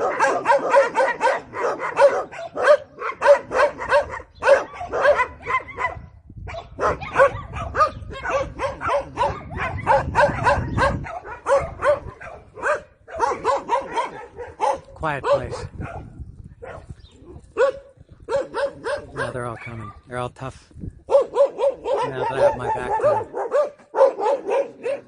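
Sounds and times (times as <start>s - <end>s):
dogs barking: 0.0s - 20.1s, 21.0s - 25.0s.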